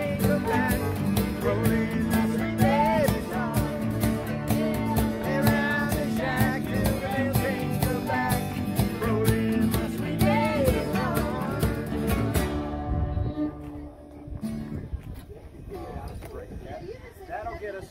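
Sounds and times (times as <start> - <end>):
acoustic guitars strumming: 0.0 - 14.8
fiddle melody: 0.0 - 14.9.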